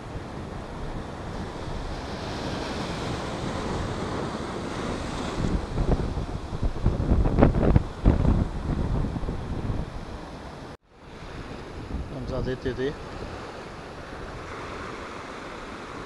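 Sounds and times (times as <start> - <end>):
wind buffeting microphone: 0.0 - 15.7
surf crashing on rocks: 0.0 - 16.0.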